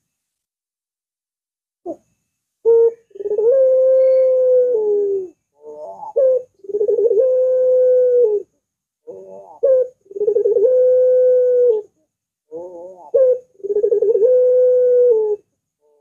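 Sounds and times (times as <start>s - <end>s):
dove cooing: 2.6s - 16.0s.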